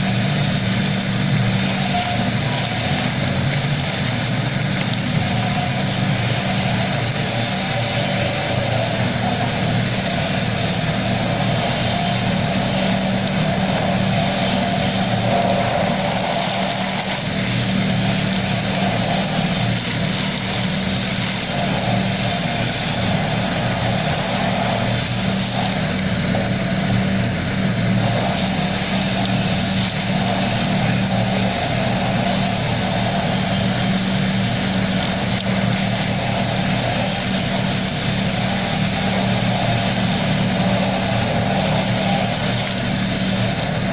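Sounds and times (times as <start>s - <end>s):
air compressor motor running: 0.0s - 43.9s
sandblasting air hiss: 0.0s - 43.9s.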